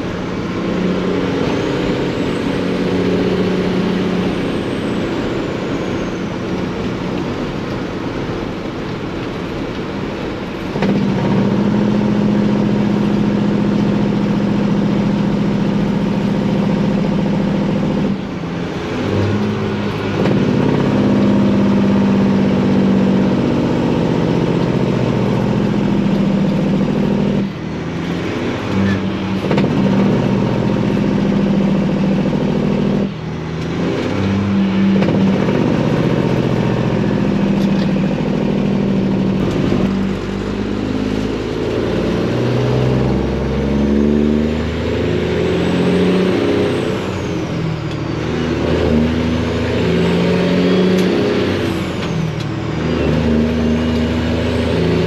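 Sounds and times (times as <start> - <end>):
diesel truck engine pulling hard: 0.0 - 55.0.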